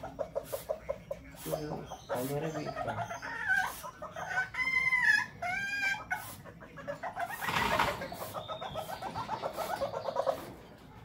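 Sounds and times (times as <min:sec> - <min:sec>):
animal calls: 0:00.0 - 0:10.6
clucking: 0:00.0 - 0:11.0
rough animal noise: 0:00.0 - 0:11.0.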